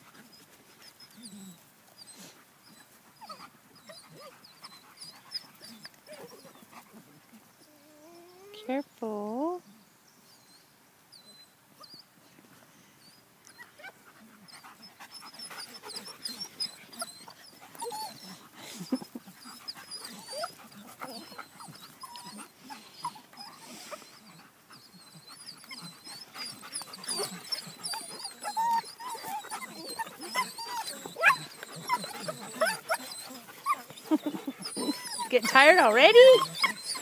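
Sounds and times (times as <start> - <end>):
puppies squeaking and growling: 0.3 - 6.9, 13.5 - 37.0.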